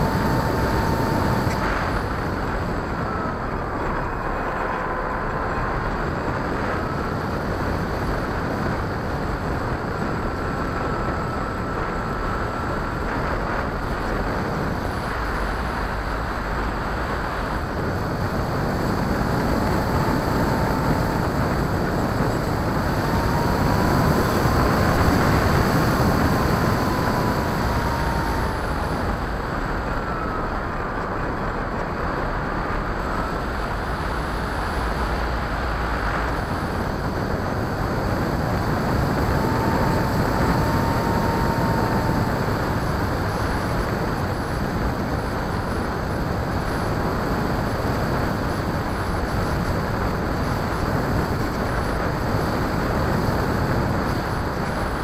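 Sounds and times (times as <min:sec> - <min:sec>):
model airplane motor and propeller: 0:00.0 - 0:55.0
thin whine: 0:00.0 - 0:55.0
wind rushing over airframe: 0:00.0 - 0:55.0.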